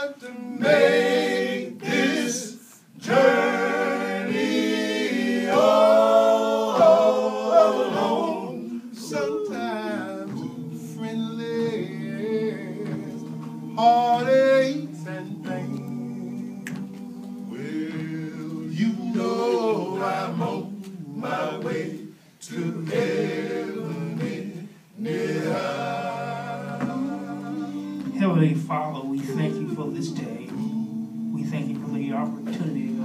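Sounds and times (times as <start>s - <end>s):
male a cappella group singing: 0.0s - 33.0s.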